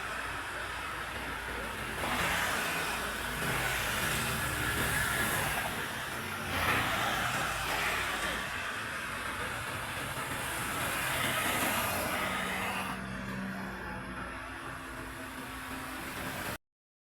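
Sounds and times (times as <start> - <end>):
motorway traffic passing: 0.0 - 16.6.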